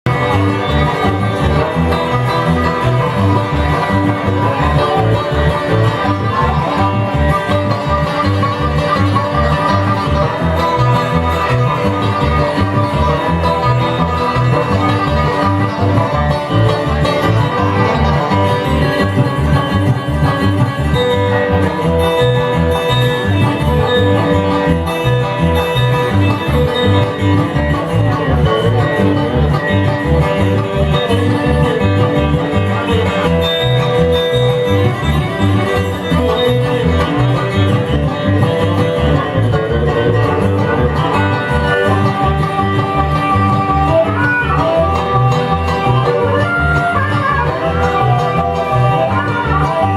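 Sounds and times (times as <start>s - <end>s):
bluegrass string band playing: 0.0s - 49.9s.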